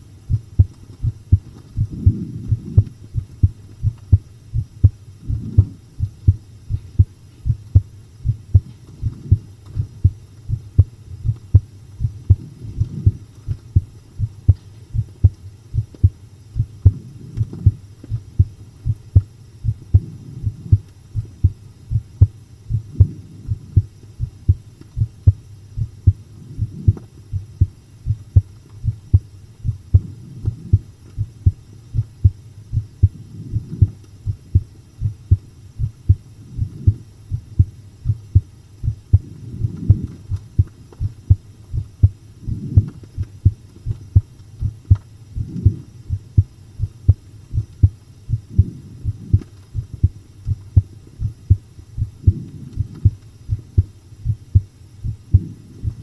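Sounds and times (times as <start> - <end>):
heartbeat thumps: 0.0 - 56.0.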